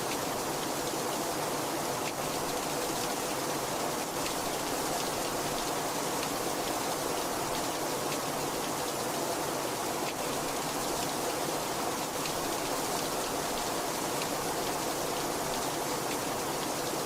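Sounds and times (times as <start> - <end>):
very heavy rain: 0.0 - 17.0.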